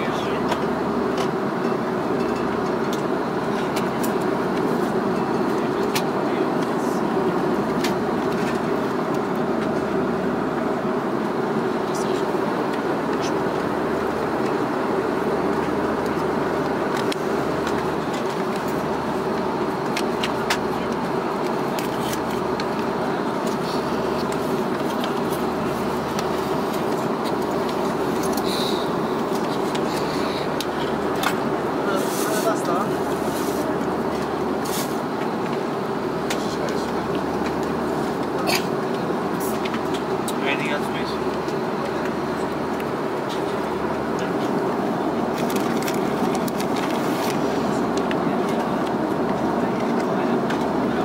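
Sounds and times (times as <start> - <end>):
aircraft engine drone: 0.0 - 51.0.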